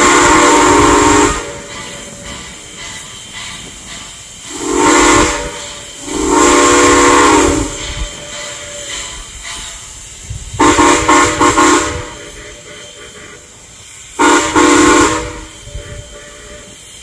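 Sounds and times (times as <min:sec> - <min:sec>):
steam locomotive whistle: 0:00.0 - 0:03.7, 0:04.4 - 0:17.0
low rumble of train: 0:00.0 - 0:17.0.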